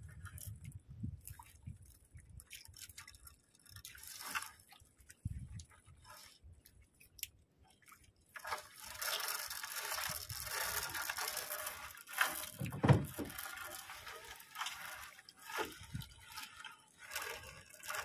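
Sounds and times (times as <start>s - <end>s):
water splashing and dripping: 0.0s - 18.0s.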